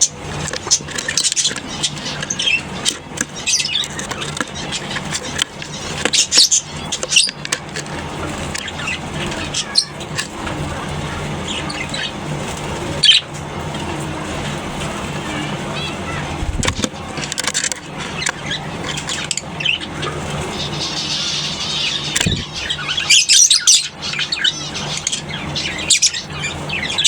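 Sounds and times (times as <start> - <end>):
lovebirds chirping and screeching: 0.0 - 27.0
steady low hum: 0.0 - 27.0.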